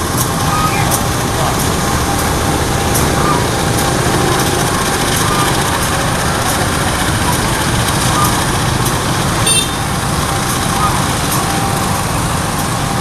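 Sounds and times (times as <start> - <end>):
locomotive diesel engine running: 0.0 - 13.0.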